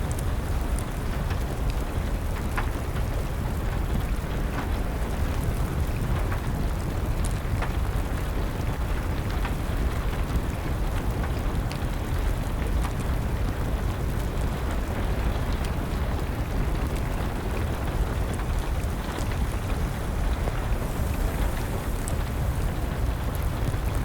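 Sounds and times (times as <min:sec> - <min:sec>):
rain: 0:00.0 - 0:24.0
wood fire crackling: 0:00.0 - 0:24.0.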